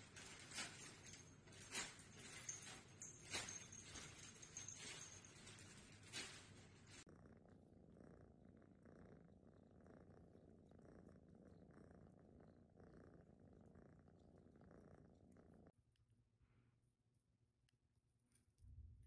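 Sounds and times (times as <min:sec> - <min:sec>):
cat purring: 0:00.0 - 0:15.8.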